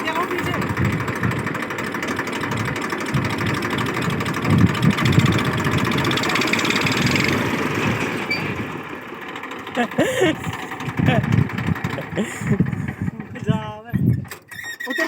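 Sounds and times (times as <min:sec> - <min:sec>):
old tractor engine running: 0:00.0 - 0:15.0.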